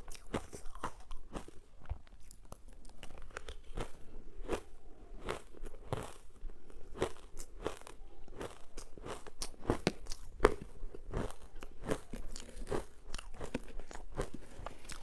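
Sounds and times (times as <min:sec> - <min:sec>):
ice crunching between teeth: 0:02.2 - 0:15.0.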